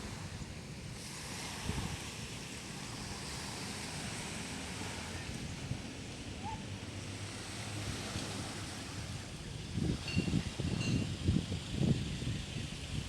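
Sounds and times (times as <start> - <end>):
wind on microphone: 0.0 - 6.6, 7.3 - 13.0
sea waves washing on beach: 0.0 - 13.0.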